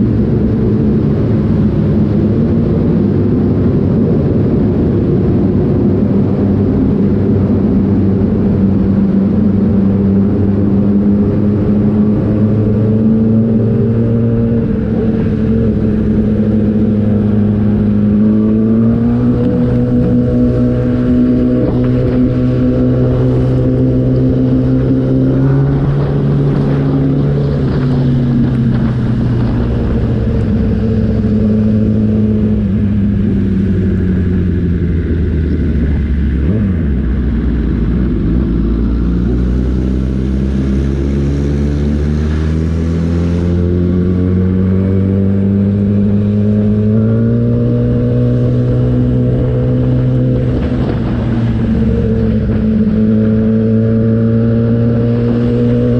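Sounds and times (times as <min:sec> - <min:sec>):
motorcycle engine: 0:00.0 - 0:55.9
wind noise: 0:00.0 - 0:55.9.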